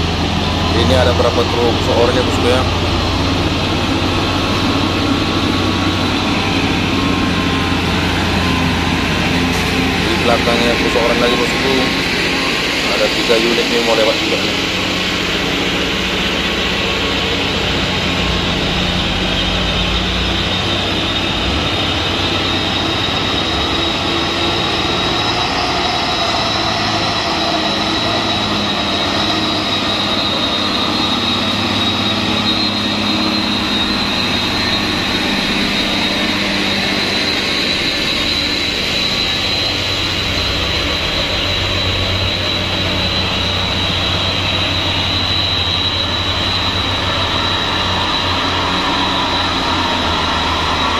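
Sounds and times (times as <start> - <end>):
diesel truck engines droning: 0.0 - 50.9
high whine: 0.0 - 50.9.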